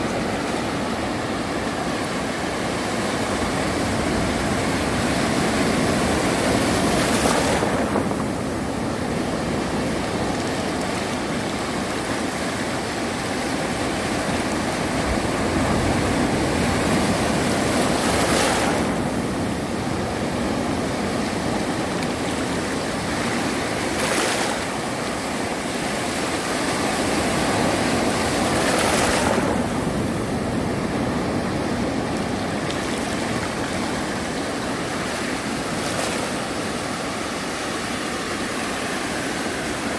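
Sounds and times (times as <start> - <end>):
sea surf washing onto beach: 0.0 - 39.9.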